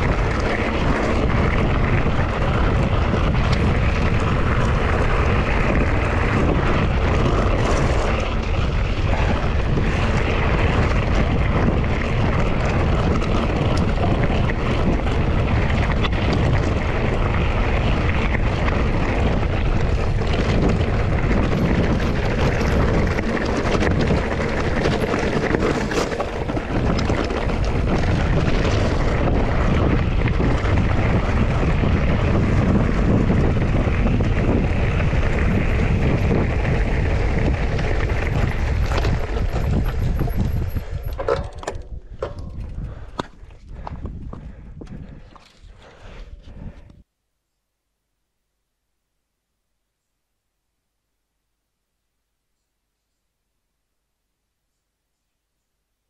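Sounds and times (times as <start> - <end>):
wind rushing on microphone: 0.0 - 47.0
bike tyres rumbling over trail: 0.0 - 47.1.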